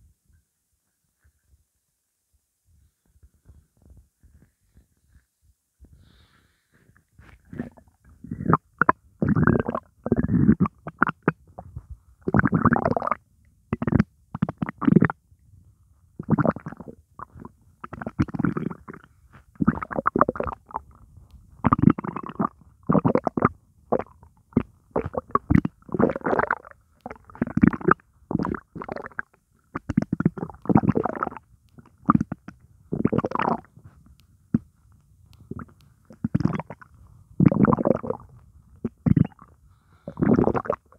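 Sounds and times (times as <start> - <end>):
stomach growling and gurgling: 6.8 - 15.3, 16.1 - 40.9.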